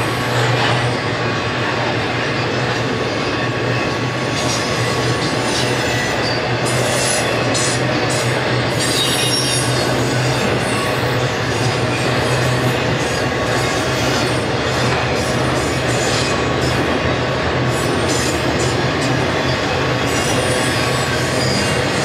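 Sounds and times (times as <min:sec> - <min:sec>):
train wheels rumbling on rail: 0:00.0 - 0:22.0
high wheel squeal: 0:02.3 - 0:22.0.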